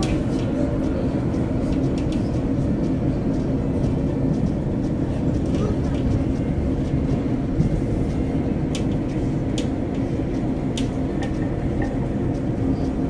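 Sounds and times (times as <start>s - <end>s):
train running from inside carriage: 0.0s - 13.0s.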